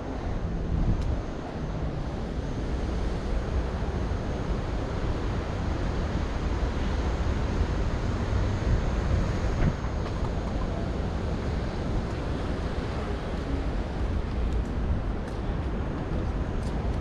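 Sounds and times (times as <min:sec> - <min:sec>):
ocean surf washing: 0:00.0 - 0:17.0
wind on microphone: 0:00.0 - 0:17.0.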